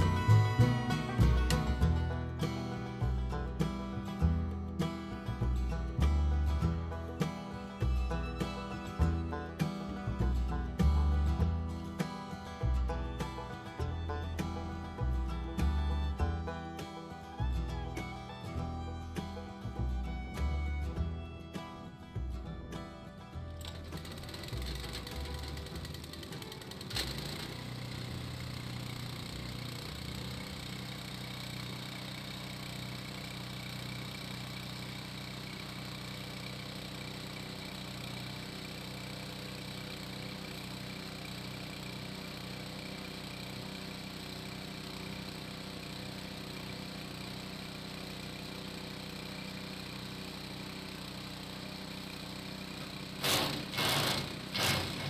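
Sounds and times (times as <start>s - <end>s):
branch shredder motor humming: 0.0s - 55.0s.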